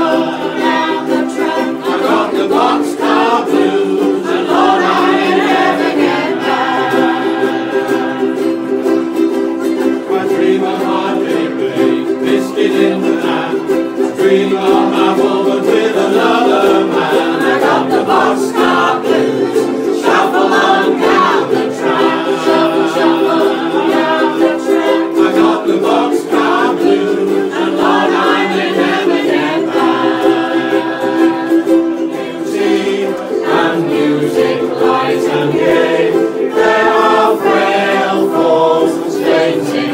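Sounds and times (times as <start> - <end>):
group of people singing: 0.0 - 39.9
ukuleles strumming: 0.0 - 39.9.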